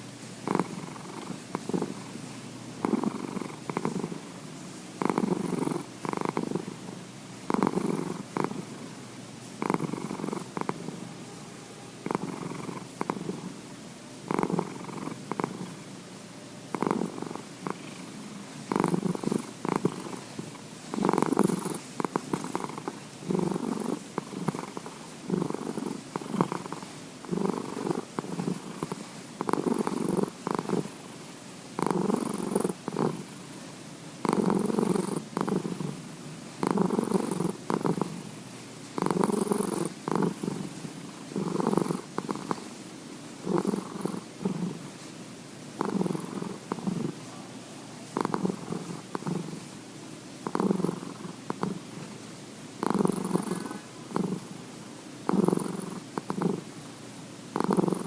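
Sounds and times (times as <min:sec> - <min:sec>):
cat purring: 0:00.0 - 0:11.2, 0:12.0 - 0:16.0, 0:16.7 - 0:33.5, 0:34.2 - 0:38.4, 0:39.0 - 0:42.8, 0:43.4 - 0:45.1, 0:45.7 - 0:49.8, 0:50.4 - 0:52.1, 0:52.8 - 0:54.6, 0:55.2 - 0:56.7, 0:57.5 - 0:58.0.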